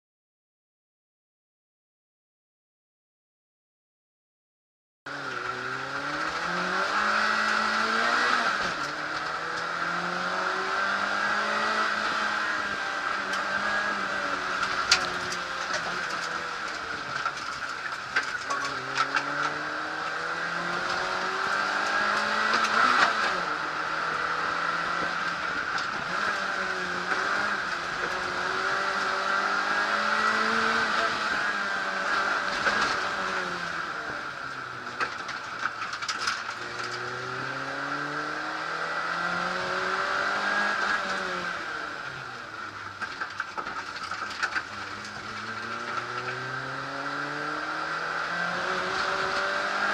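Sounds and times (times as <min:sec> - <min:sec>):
rally car engine revving: 0:05.1 - 0:49.9.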